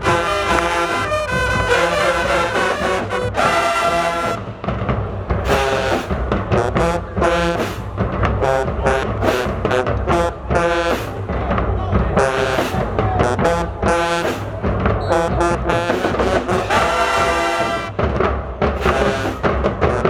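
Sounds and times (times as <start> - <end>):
brass section playing chords: 0.0 - 4.7, 5.4 - 7.8, 8.4 - 11.3, 12.1 - 18.1, 18.8 - 20.0
drumline: 0.0 - 20.0.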